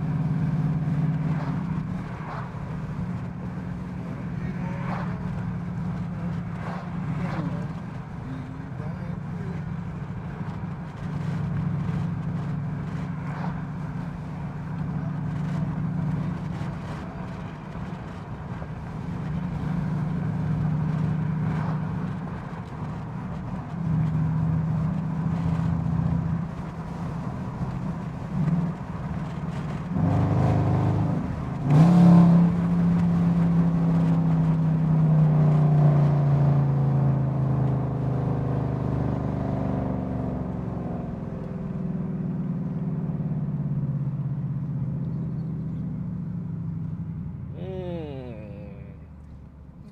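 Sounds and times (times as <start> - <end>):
car engine and exhaust droning: 0.0 - 49.9.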